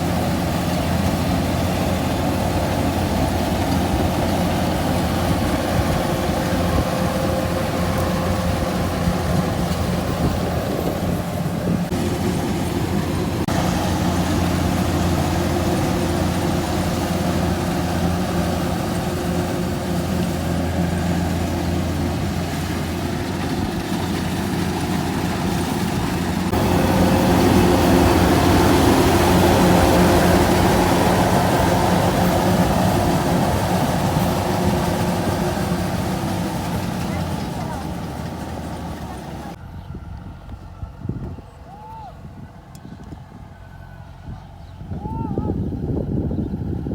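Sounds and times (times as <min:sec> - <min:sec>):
farm machine engine running: 0:00.0 - 0:45.0.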